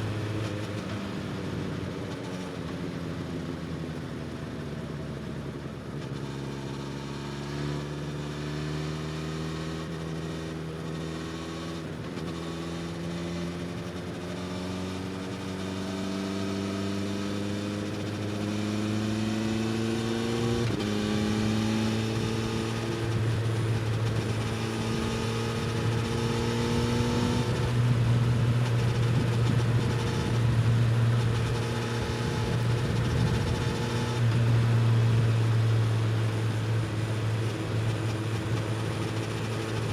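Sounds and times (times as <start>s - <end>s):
motorcycle engine accelerating: 5.8s - 39.9s.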